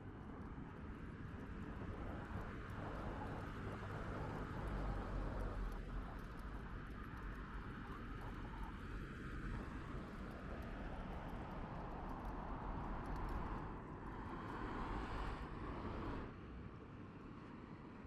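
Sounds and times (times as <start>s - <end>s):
faint light ticks: 0.1s - 15.2s.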